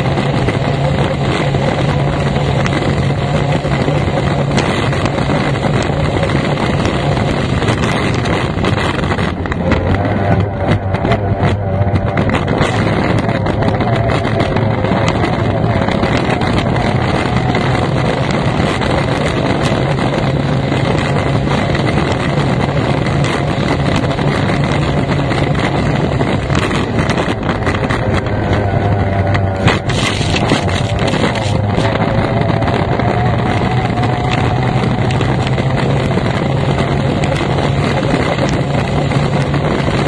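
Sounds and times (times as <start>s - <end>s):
racing outboard engine running hard: 0.0s - 40.0s.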